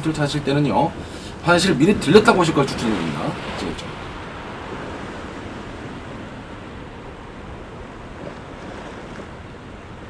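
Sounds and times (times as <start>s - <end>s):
sea waves washing on rocks: 0.0s - 10.0s.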